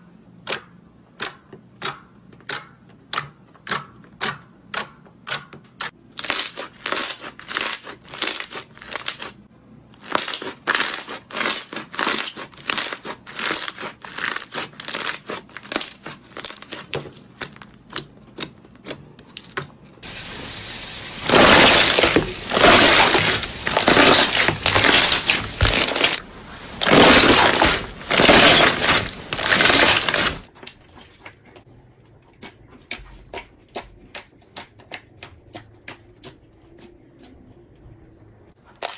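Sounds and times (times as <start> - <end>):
crackling crinkly slime squishes: 5.8 - 37.3, 38.6 - 38.9.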